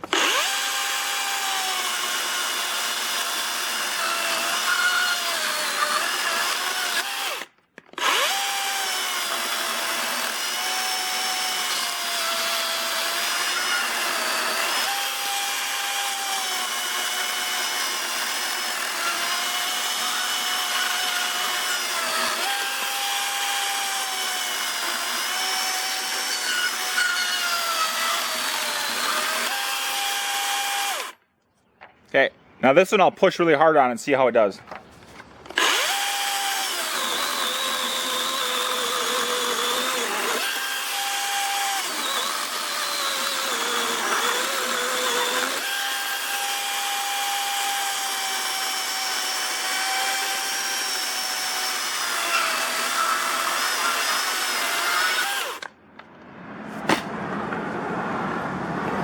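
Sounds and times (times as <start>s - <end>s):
chainsaw cutting wood: 0.0s - 31.2s, 35.5s - 55.8s.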